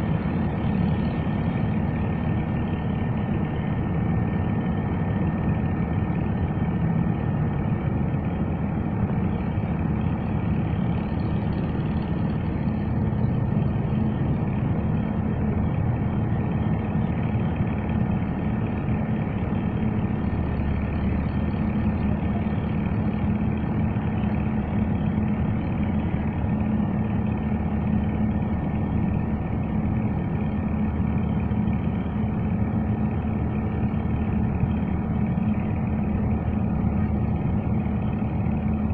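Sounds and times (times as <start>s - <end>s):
heavy engine running: 0.0s - 38.9s.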